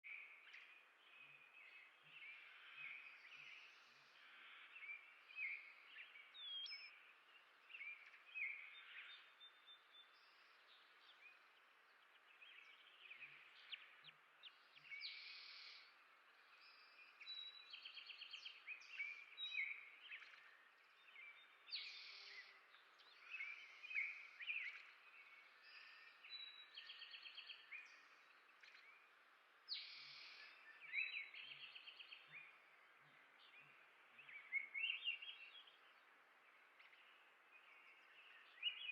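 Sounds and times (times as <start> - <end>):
small birds chirping: 0.0 - 38.9
soft outdoor hiss: 0.0 - 38.9.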